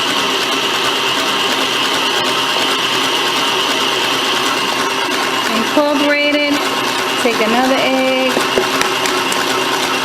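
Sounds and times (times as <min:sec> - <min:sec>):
electric stand mixer running: 0:00.0 - 0:10.0.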